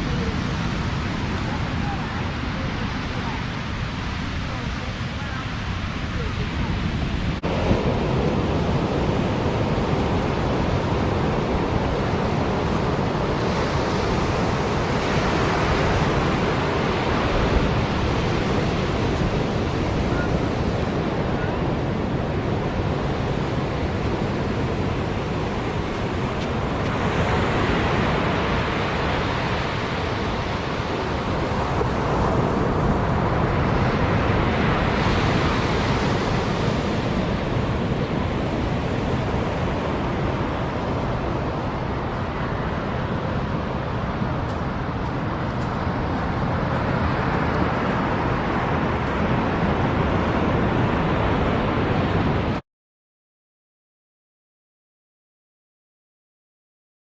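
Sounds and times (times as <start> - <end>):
ocean surf rushing: 0.0 - 52.6
wind on microphone: 0.0 - 52.6.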